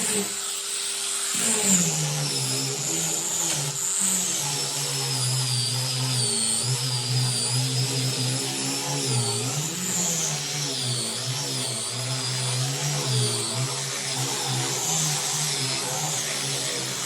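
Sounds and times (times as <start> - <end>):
power sander on wood: 0.0 - 17.0.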